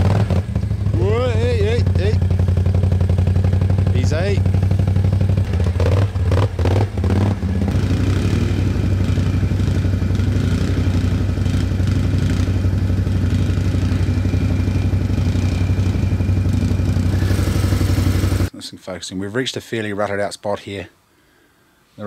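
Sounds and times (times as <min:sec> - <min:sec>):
quad bike engine running: 0:00.0 - 0:18.5.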